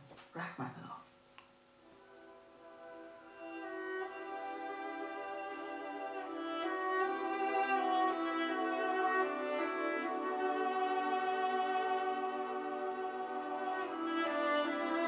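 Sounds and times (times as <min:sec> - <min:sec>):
classical string music on radio: 0:01.5 - 0:15.0.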